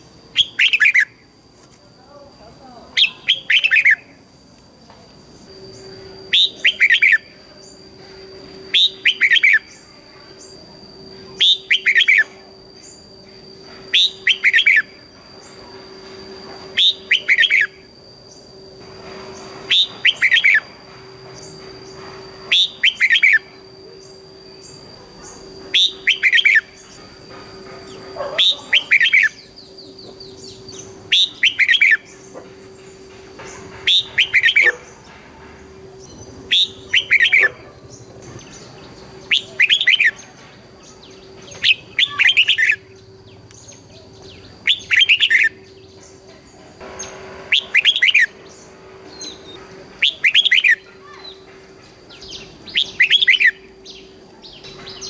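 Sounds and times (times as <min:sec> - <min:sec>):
faint hum and high whine: 0:00.0 - 0:55.0
bird whistled song phrases: 0:00.3 - 0:01.3, 0:03.0 - 0:04.2, 0:05.6 - 0:08.0, 0:08.6 - 0:15.6, 0:16.7 - 0:18.6, 0:19.4 - 0:20.7, 0:21.3 - 0:27.2, 0:27.9 - 0:33.0, 0:33.9 - 0:34.9, 0:36.0 - 0:46.2, 0:47.0 - 0:51.5, 0:52.1 - 0:55.0.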